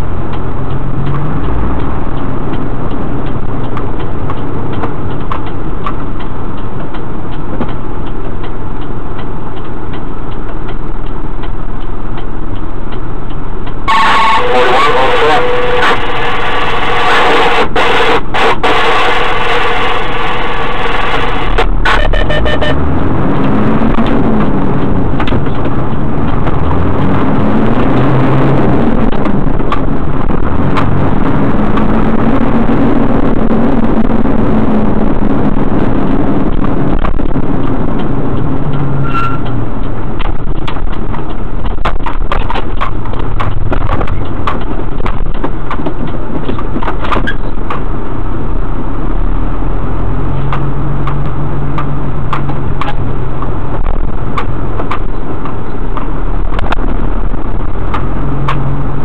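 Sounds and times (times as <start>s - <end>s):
truck engine accelerating: 0.0s - 59.0s.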